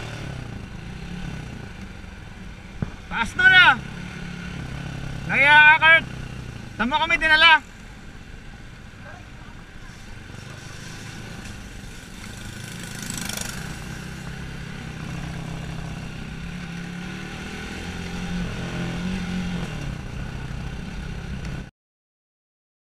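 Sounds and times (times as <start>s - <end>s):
motorcycle engine while riding: 0.0s - 21.7s.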